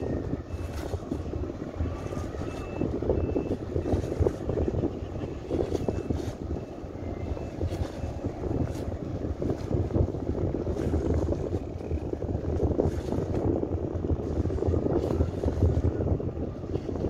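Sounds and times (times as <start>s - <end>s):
boat engine rumbling: 0.0s - 17.0s
water noise: 0.0s - 17.0s
wind noise: 0.0s - 17.0s.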